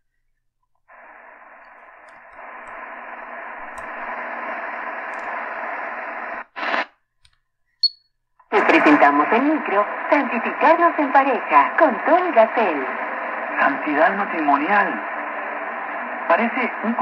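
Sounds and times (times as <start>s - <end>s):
radio static hiss: 0.9s - 6.9s, 8.5s - 17.0s.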